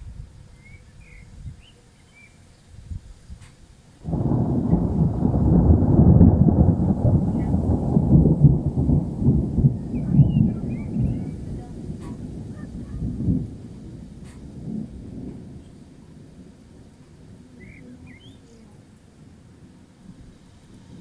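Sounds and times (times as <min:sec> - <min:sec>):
thunder rumbling: 0:04.0 - 0:21.0.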